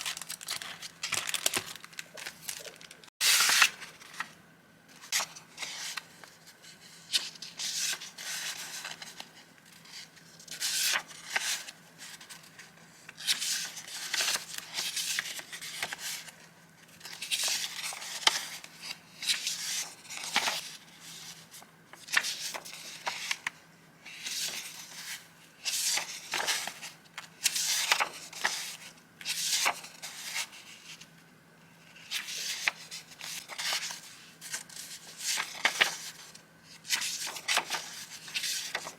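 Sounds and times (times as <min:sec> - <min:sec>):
paper rustling and crinkling: 0:00.0 - 0:04.4, 0:05.0 - 0:31.1, 0:31.8 - 0:38.9.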